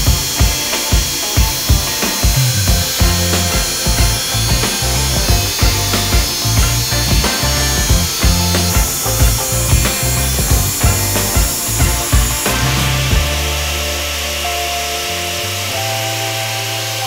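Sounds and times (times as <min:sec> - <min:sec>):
background music with beat and bass: 0:00.0 - 0:16.6.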